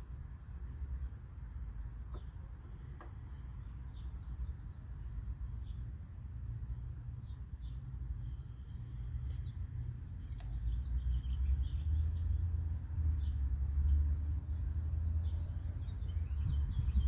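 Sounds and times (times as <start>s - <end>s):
birds chirping: 0.7s - 17.0s.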